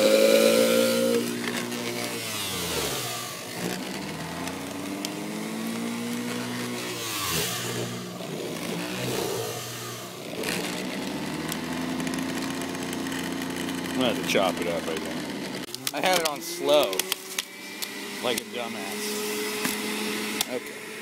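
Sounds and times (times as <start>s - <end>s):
juicer motor whining: 0.0s - 21.0s.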